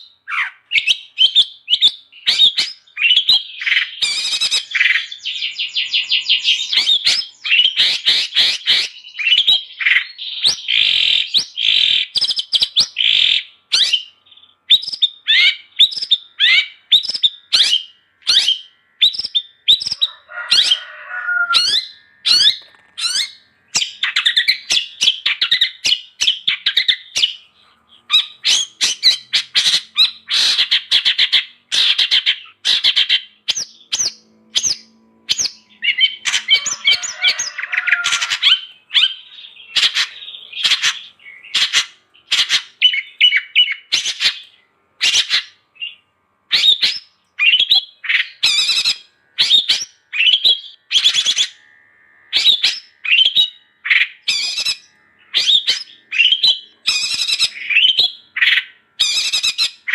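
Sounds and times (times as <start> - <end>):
bird chirping and squawking: 0.0 - 51.7, 52.3 - 59.9.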